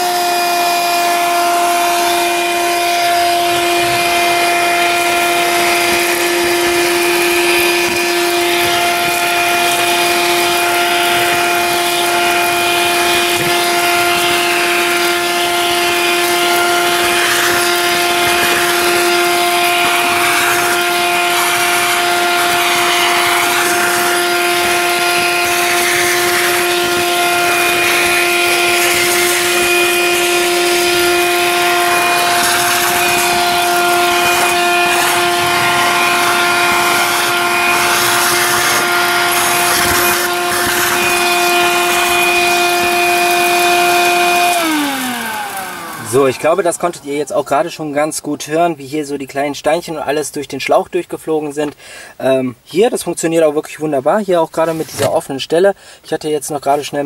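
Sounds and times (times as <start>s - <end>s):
small stones rattling in hose: 0.0s - 50.2s
vacuum cleaner whine: 0.0s - 50.8s.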